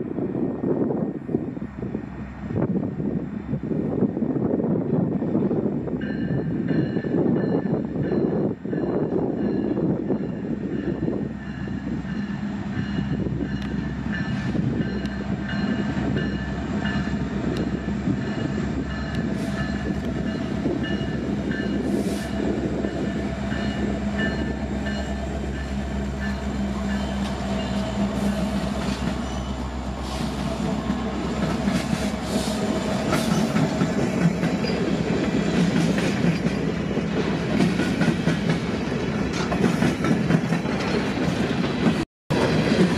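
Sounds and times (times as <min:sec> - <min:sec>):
diesel locomotives running: 0:00.0 - 0:42.9
train wheels clacking: 0:06.0 - 0:42.9.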